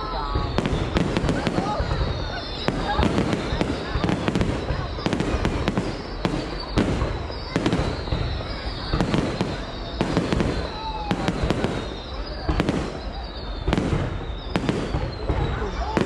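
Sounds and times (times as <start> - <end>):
firework bangs: 0.0 - 16.0
firework whistles: 0.0 - 16.0
murmur of voices: 0.0 - 16.0.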